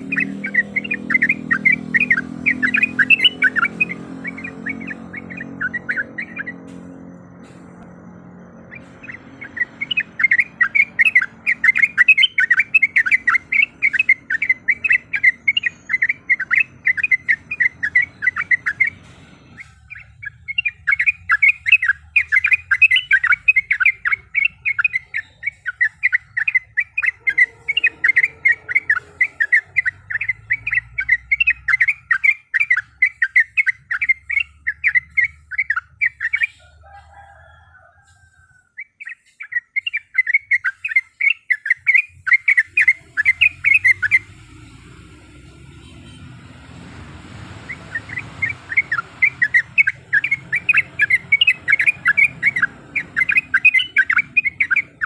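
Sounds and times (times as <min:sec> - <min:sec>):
bird chattering song: 0:00.0 - 0:46.4, 0:47.4 - 0:55.0.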